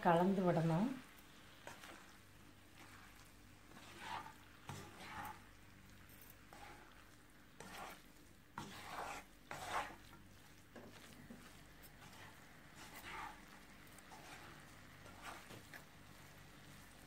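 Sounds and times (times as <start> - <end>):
spatula scraping frying pan: 1.3 - 17.0.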